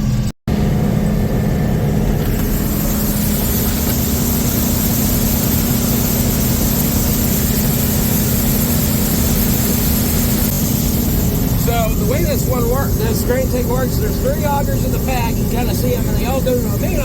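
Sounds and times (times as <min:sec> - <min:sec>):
combine engine drone: 0:00.0 - 0:17.0.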